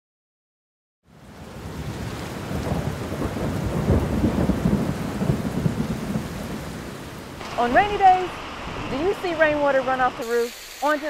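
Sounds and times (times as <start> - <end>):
heavy rain falling: 1.1 - 11.0
thunder rumbling: 1.4 - 11.0.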